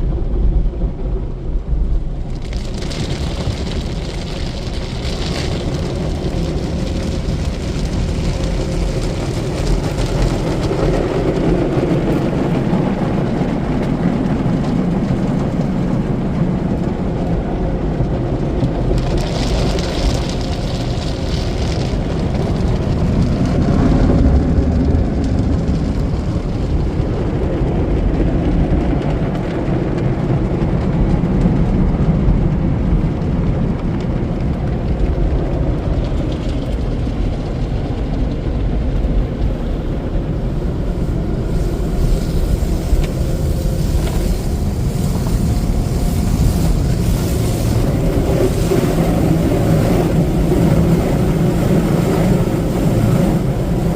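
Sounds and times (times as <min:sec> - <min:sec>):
car wash machinery rumbling: 0:00.0 - 0:53.9.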